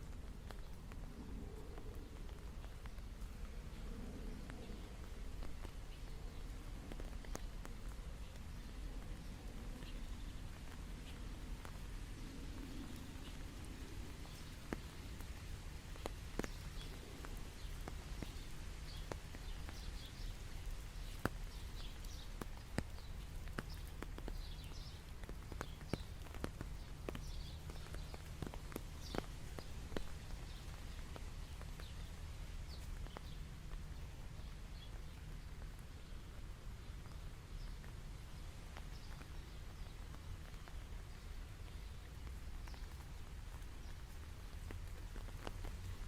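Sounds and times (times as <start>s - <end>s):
rain drops tapping: 0.0s - 46.0s.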